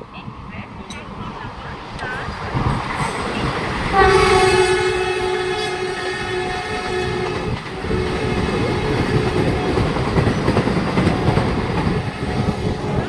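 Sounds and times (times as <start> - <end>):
train rumbling at speed: 0.0 - 13.0.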